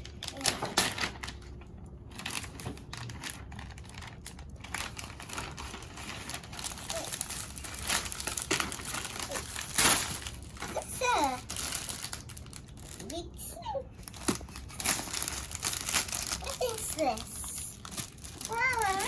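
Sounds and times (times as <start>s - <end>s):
toy packaging crinkling: 0.0s - 19.0s.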